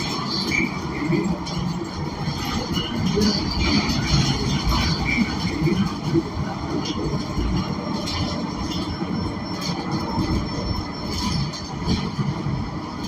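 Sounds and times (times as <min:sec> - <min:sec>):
bus engine and road rumble: 0:00.0 - 0:13.0
light rattles and clicks: 0:00.0 - 0:13.0.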